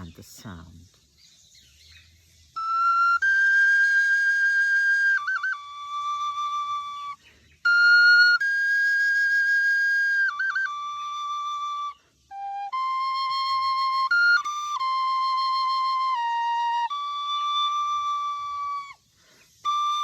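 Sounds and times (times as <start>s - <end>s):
solo flute melody: 2.4s - 20.0s.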